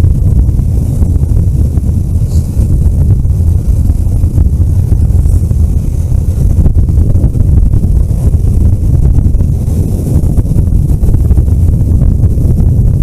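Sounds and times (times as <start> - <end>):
vehicle low rumble: 0.0 - 13.0
wind buffeting microphone: 0.0 - 13.0.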